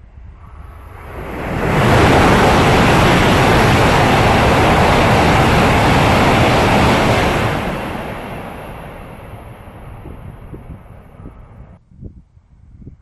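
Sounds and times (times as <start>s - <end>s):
high-speed train passing: 0.0s - 11.8s.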